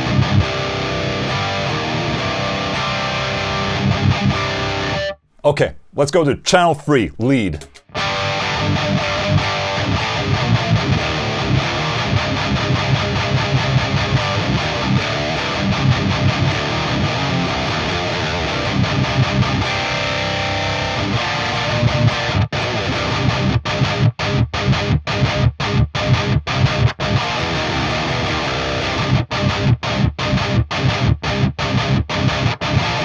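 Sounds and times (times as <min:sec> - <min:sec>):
distorted electric guitar riff: 0:00.0 - 0:05.1, 0:06.6 - 0:33.0.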